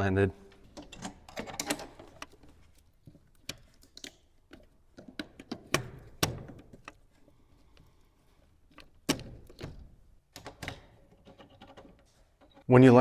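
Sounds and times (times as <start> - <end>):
metal wires clicking and knocking: 0.5 - 7.1, 8.6 - 12.7.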